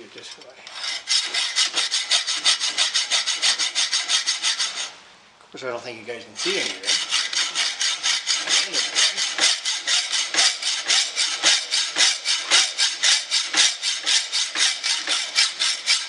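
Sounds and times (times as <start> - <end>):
hacksaw cutting metal: 0.2 - 5.0, 6.4 - 16.0.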